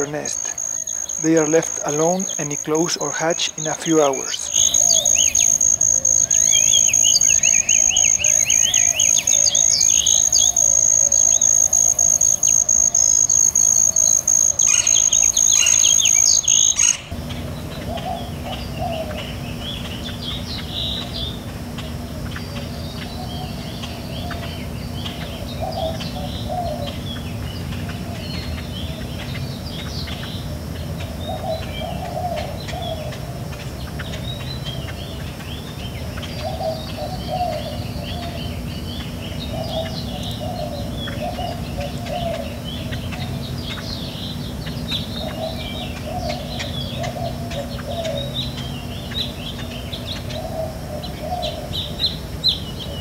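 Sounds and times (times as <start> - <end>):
small birds chirping: 0.0 - 53.0
steady high whine: 0.0 - 53.0.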